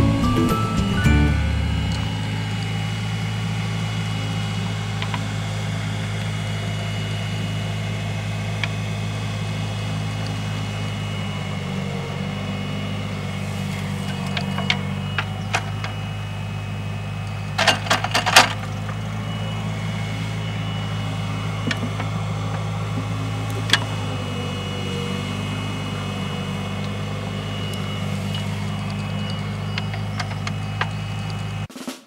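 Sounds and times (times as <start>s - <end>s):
heavy machine engine humming: 0.0s - 31.7s.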